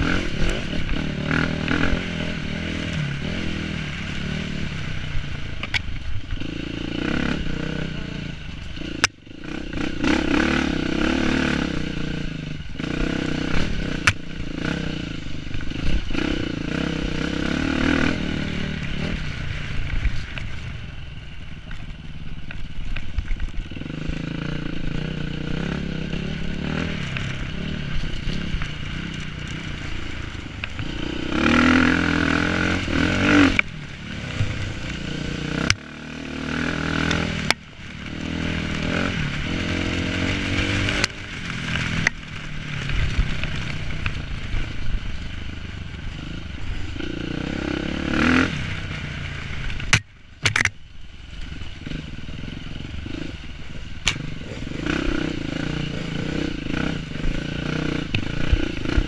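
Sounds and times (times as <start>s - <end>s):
dirt bike engine revving: 0.0s - 5.3s, 6.3s - 20.1s, 23.6s - 44.7s, 46.0s - 50.6s, 51.8s - 59.0s.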